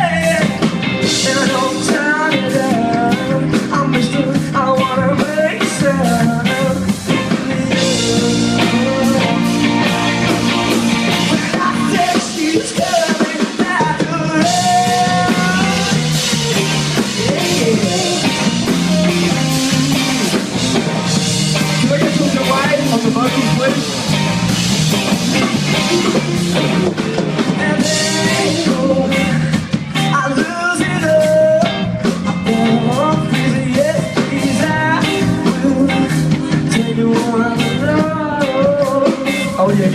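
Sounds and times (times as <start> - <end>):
drums: 0.0 - 39.9
live rock band playing: 0.0 - 39.9.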